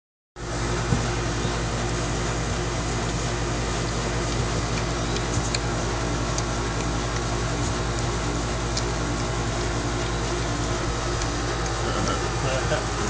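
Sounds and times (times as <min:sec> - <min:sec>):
machine hum with hiss: 0:00.4 - 0:13.0.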